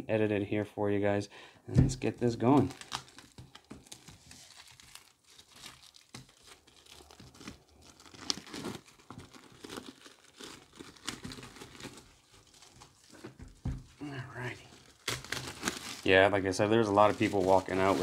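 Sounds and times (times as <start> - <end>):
plastic shrink wrap tearing: 2.5 - 13.3, 14.3 - 18.0.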